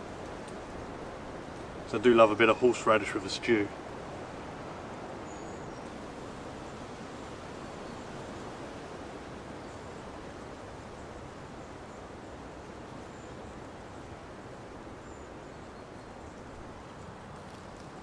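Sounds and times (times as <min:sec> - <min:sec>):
wind rushing through trees: 0:00.0 - 0:18.0.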